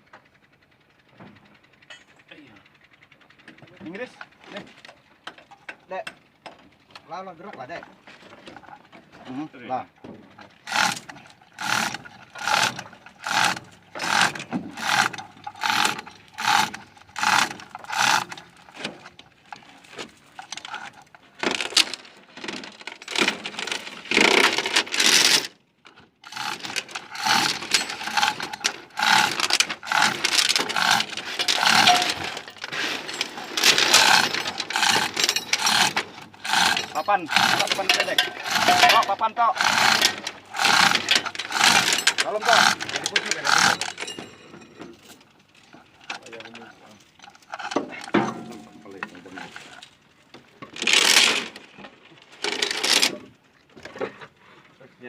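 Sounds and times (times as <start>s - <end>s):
clatter of metal knocks and scrapes: 1.0s - 2.4s, 3.0s - 54.6s.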